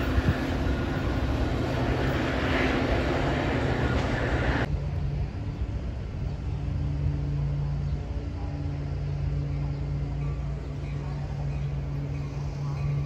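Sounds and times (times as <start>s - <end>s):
distant train hum: 0.0s - 13.0s
steady low drone: 0.0s - 13.0s
train rushing rumble: 0.0s - 13.0s.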